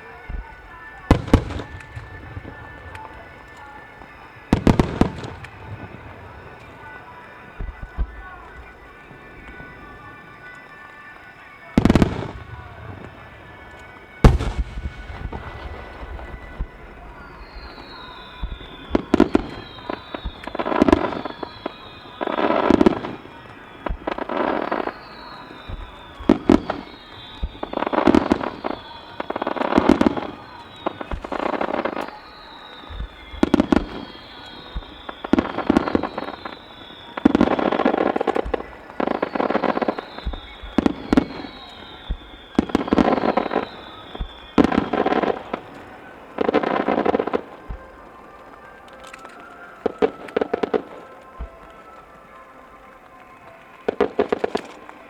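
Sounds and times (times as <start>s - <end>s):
high falling whistles: 0.0s - 55.0s
music playing: 0.0s - 55.0s.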